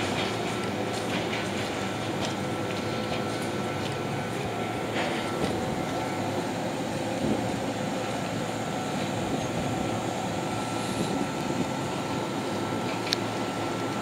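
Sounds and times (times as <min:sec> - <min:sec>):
electric train idling hum: 0:00.0 - 0:14.0
faint steady whine: 0:01.9 - 0:14.0.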